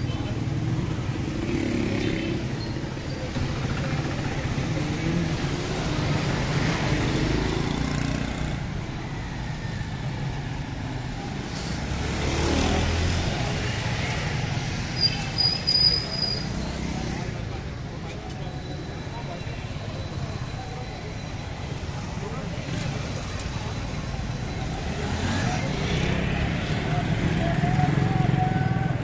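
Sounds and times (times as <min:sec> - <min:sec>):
car and motorcycle engines: 0:00.0 - 0:29.0.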